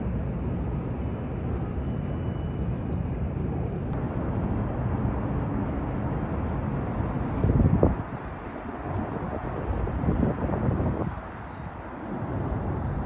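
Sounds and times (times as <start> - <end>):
low rumbling outdoor noise: 0.0 - 13.0.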